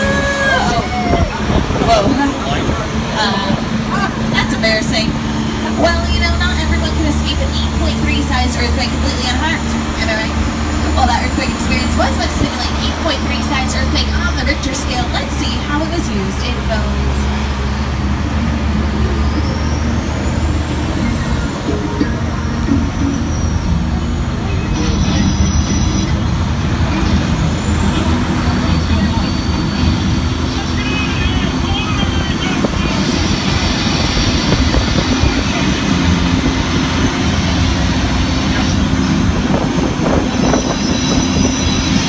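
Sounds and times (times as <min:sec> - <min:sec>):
tram engine and road rumble: 0:00.0 - 0:42.0.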